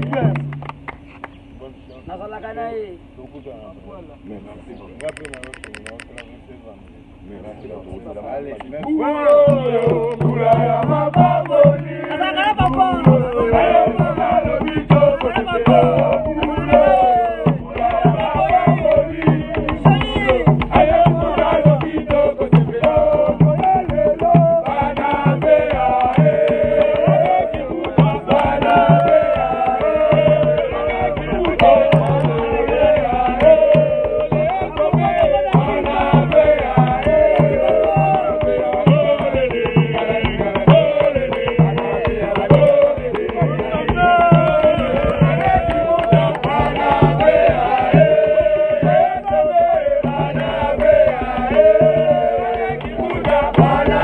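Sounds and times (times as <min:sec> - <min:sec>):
steady drum beat: 0:00.0 - 0:01.0, 0:08.7 - 0:54.0.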